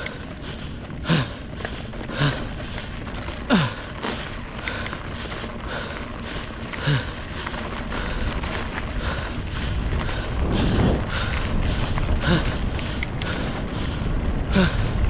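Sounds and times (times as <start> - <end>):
low rumble: 0.0 - 15.0
person breathing hard: 0.0 - 15.0.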